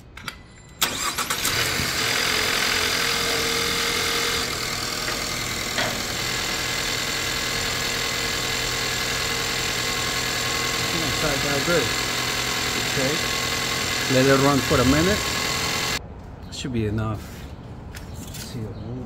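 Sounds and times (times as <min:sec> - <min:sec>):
car engine starting and idling: 0:00.3 - 0:16.0.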